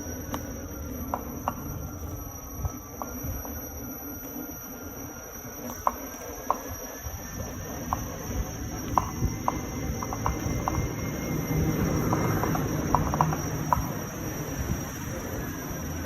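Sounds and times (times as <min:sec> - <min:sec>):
electric unicycle knocking: 0:00.0 - 0:16.0.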